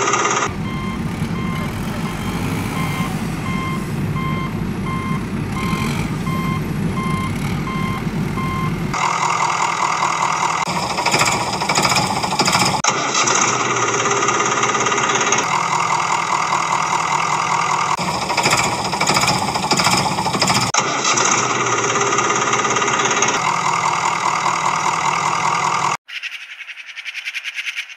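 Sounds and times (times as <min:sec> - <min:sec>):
engine knocking chug: 0:00.0 - 0:26.0.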